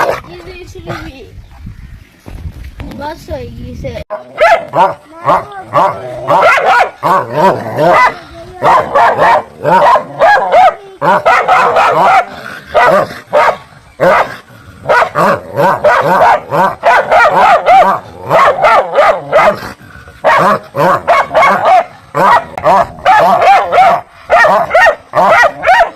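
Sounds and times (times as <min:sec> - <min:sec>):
dogs barking: 0:04.1 - 0:25.9.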